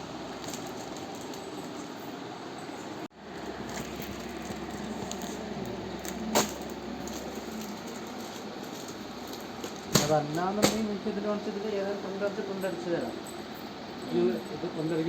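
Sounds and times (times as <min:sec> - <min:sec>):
shop bustle: 0:00.0 - 0:13.4
distant voices: 0:00.0 - 0:15.0.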